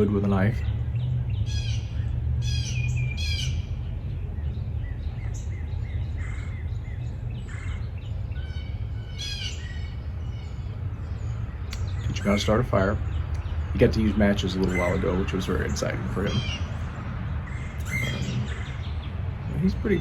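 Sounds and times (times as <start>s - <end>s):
birds chirping and calling: 0.0s - 20.0s
steady low rumble: 0.0s - 20.0s.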